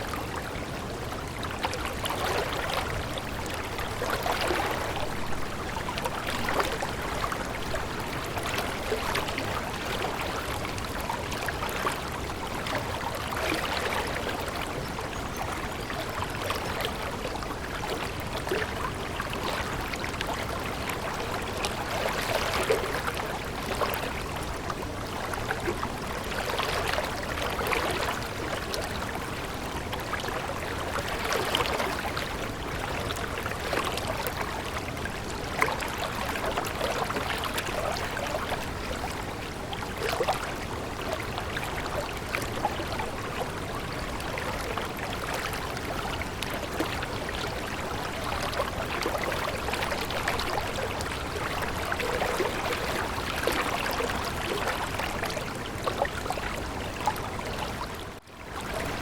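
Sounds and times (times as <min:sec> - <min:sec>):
water babbling over stones: 0:00.0 - 0:59.0.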